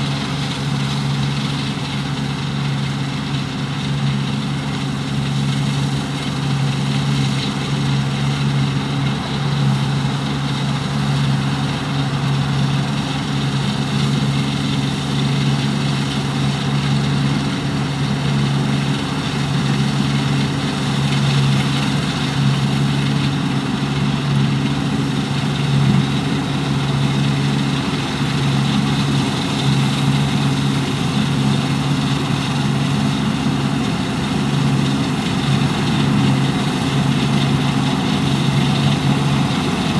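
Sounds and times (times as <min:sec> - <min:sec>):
broad mechanical noise: 0:00.0 - 0:39.9
combine harvester engine drone: 0:00.0 - 0:39.9.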